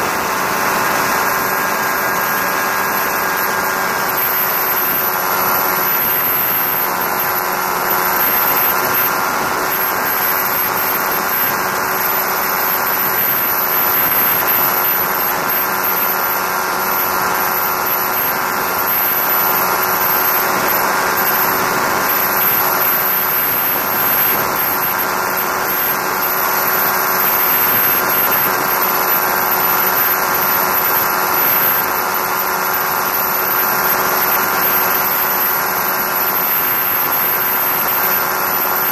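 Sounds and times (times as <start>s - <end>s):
thin high whine: 0.0s - 38.9s.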